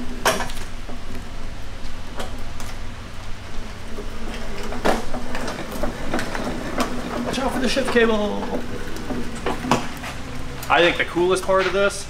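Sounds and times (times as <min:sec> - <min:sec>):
cart casters rolling with rattling: 0:00.0 - 0:12.0.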